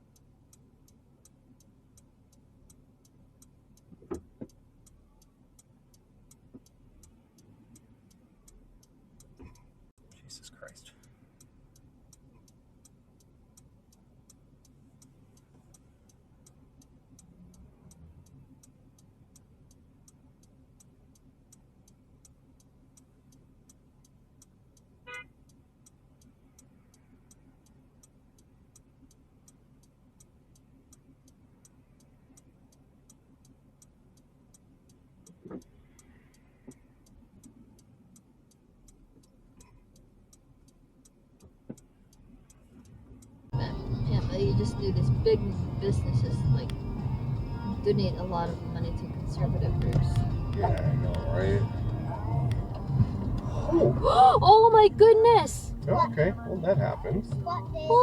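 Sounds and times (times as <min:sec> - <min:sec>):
low steady hum: 0:00.0 - 0:58.0
turn-signal relay ticking: 0:00.0 - 0:58.0.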